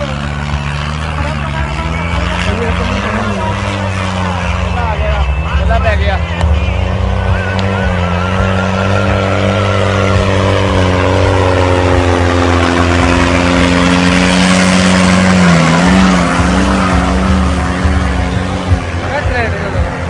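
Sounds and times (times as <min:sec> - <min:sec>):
diesel tractor engine under load: 0:00.0 - 0:20.0.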